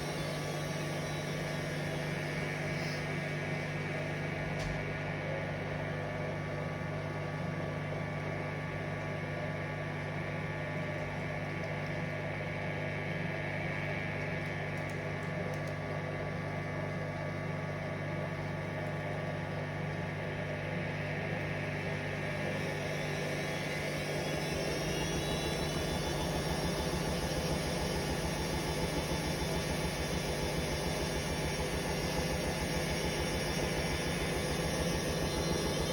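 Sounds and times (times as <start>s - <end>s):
washing machine spinning: 0.0s - 35.9s.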